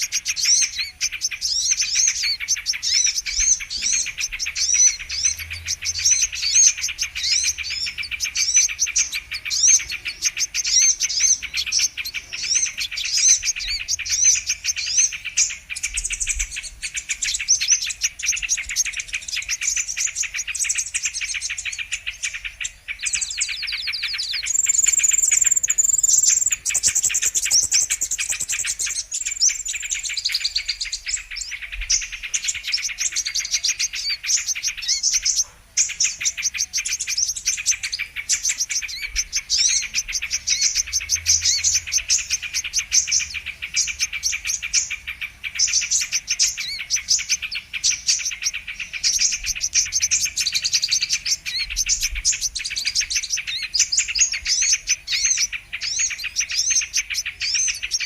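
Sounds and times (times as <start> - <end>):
sunbird rapid high chirps: 0.0 - 58.0.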